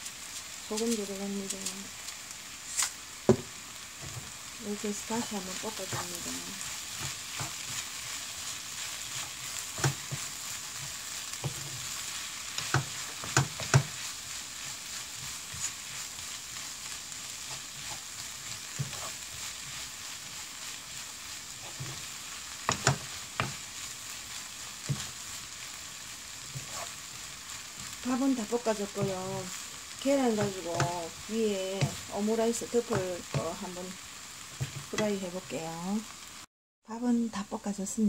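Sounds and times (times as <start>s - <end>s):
rice sizzling in a hot pan: 0.0s - 38.0s.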